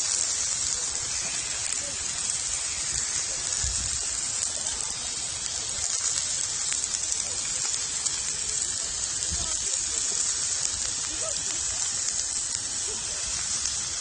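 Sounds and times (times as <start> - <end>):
meat sizzling on grill plate: 0.0 - 14.0.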